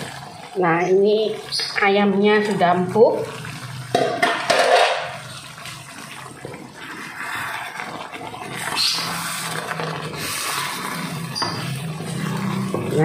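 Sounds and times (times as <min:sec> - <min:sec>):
broth bubbling and spattering: 0:00.0 - 0:13.0.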